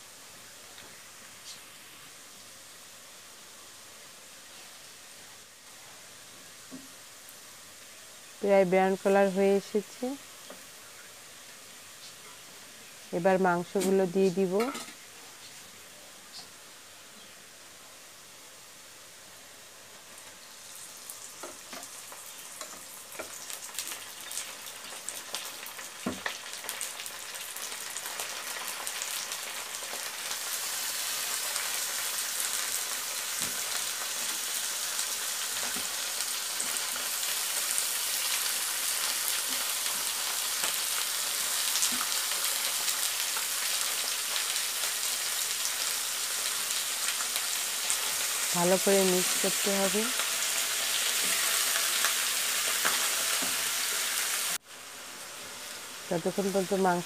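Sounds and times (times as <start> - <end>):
meat sizzling in hot oil: 0.0 - 17.6, 18.2 - 57.0.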